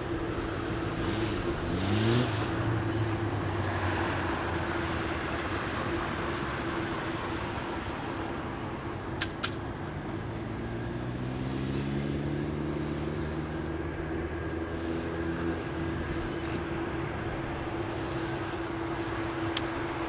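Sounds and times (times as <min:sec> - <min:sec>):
deep multi-toned engine hum: 0:00.0 - 0:20.0
steady engine tone: 0:00.0 - 0:20.0.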